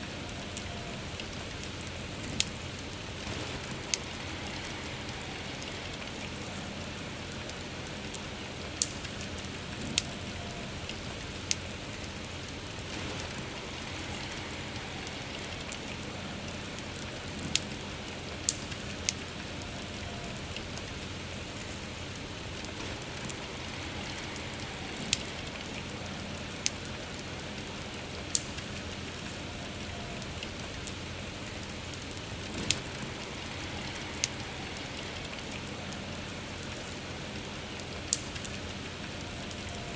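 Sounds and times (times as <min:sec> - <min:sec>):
campfire wood crackling: 0:00.0 - 0:39.9
soft rain: 0:00.0 - 0:39.9.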